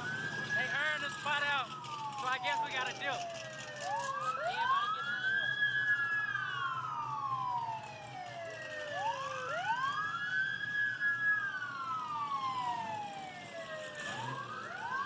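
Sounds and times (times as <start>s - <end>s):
police sirens wailing: 0.0s - 15.0s.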